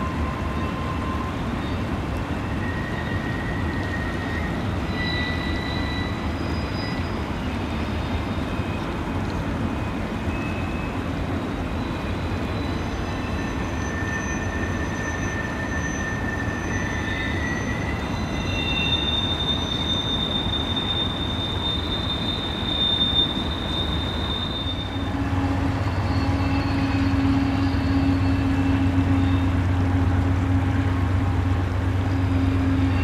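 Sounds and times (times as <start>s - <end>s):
train wheels squealing: 0.0s - 8.9s, 9.8s - 30.1s, 31.9s - 33.0s
fast creek rushing: 0.0s - 33.0s.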